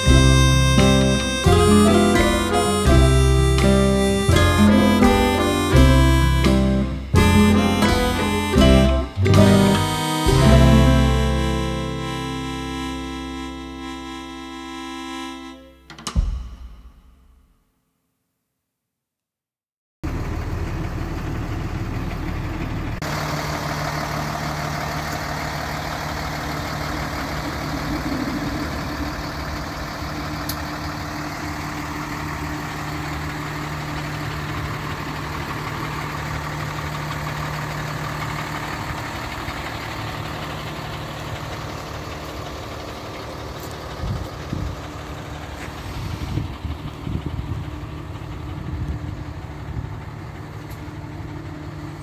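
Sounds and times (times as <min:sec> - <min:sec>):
diesel truck engine idling: 0:00.0 - 0:15.8, 0:20.0 - 0:52.0.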